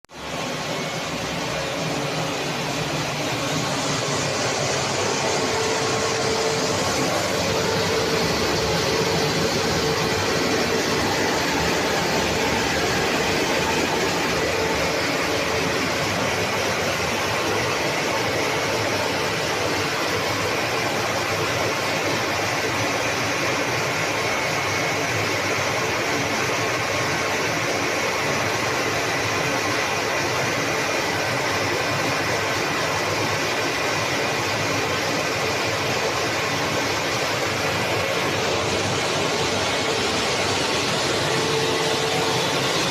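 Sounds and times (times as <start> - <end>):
loud steady machinery noise: 0.1 - 42.9.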